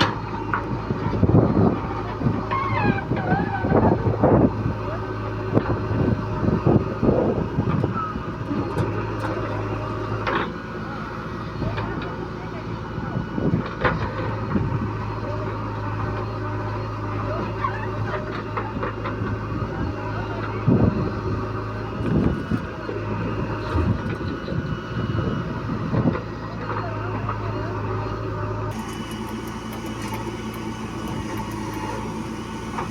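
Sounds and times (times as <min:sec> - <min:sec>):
heavy diesel engine running: 0:00.0 - 0:32.9.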